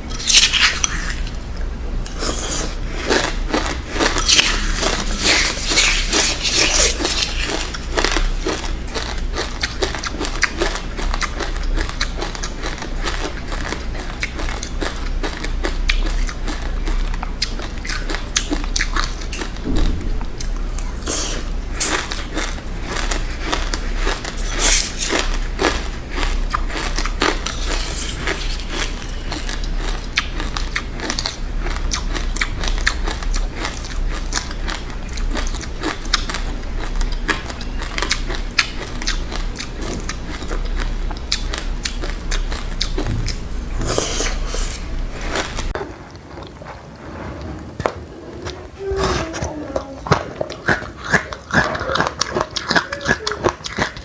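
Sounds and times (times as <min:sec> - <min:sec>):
crunching of seeds being chewed: 0:00.1 - 0:46.8, 0:49.6 - 0:54.0.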